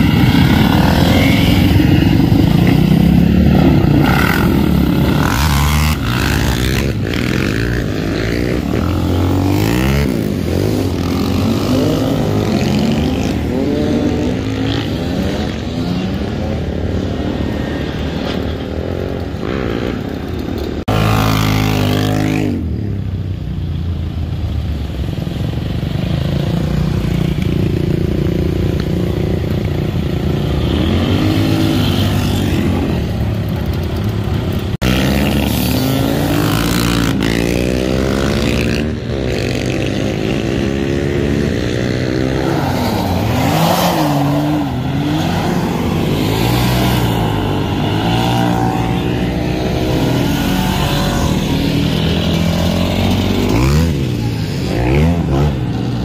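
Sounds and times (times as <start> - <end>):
motorcycle engines revving past: 0.0 - 23.3, 25.4 - 56.0.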